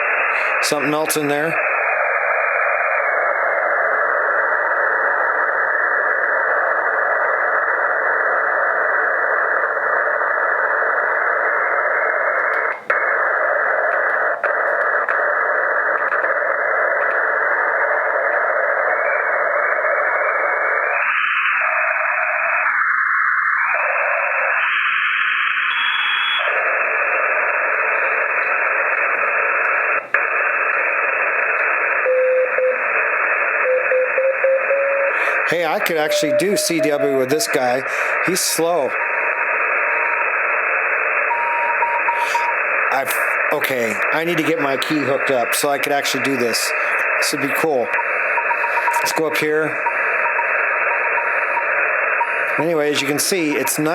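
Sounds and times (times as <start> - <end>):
shortwave radio static hiss: 0.0 - 53.9.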